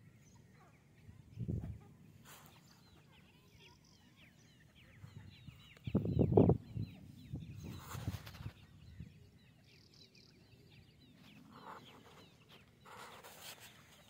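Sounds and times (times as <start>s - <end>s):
chicks peeping: 0.3s - 9.6s, 10.7s - 14.0s.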